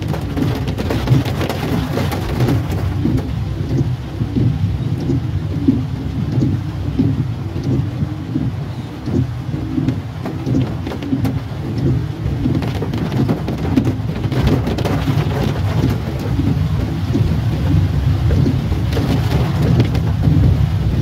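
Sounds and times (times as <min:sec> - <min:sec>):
low rumble: 0:00.0 - 0:21.0
rain on car roof: 0:00.0 - 0:21.0.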